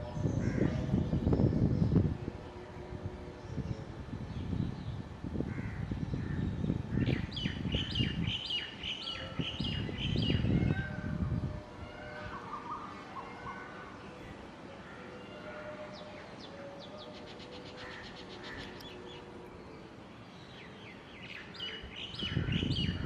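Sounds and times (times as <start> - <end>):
songbirds calling: 0.0 - 23.0.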